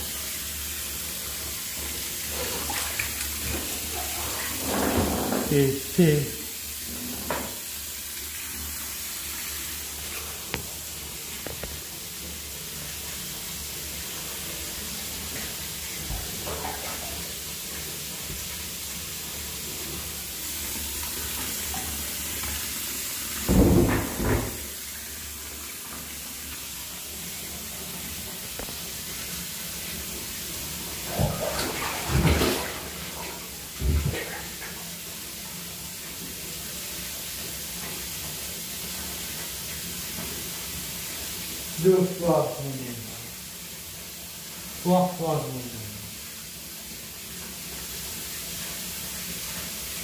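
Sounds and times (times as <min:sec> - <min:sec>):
shower water running: 0:00.0 - 0:50.0.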